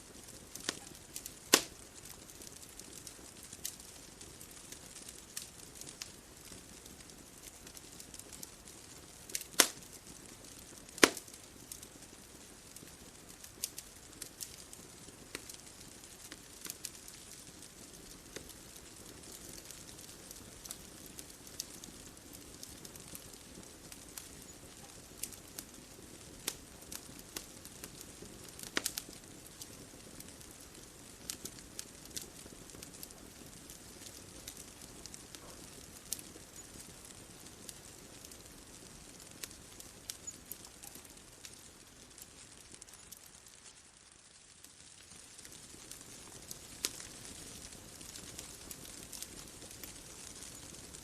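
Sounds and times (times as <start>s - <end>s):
soft steady hiss: 0.0s - 51.0s
wood fire crackling: 0.0s - 51.0s.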